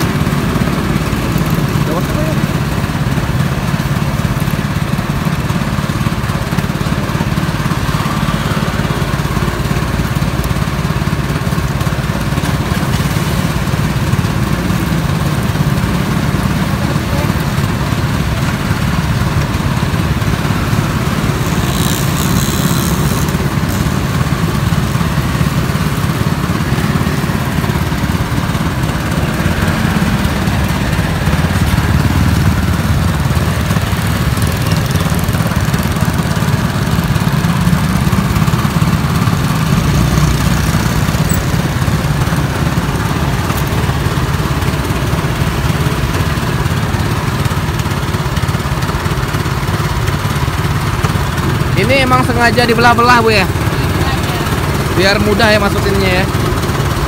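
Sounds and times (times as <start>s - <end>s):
motor-driven juice press running: 0.0s - 57.0s.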